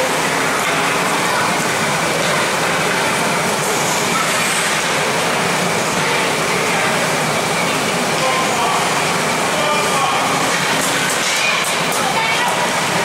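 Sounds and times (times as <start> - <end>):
indistinct spectators' voices: 0.0 - 13.0.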